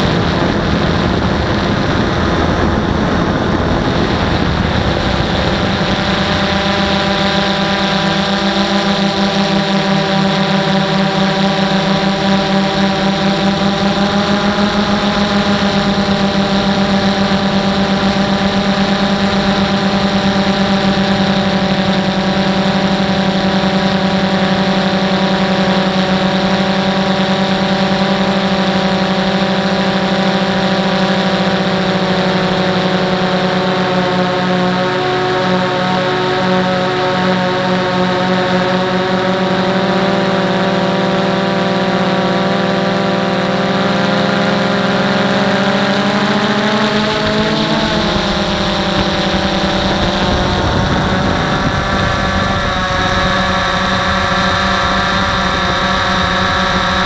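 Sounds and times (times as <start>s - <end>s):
drone motors humming: 0.0s - 57.0s.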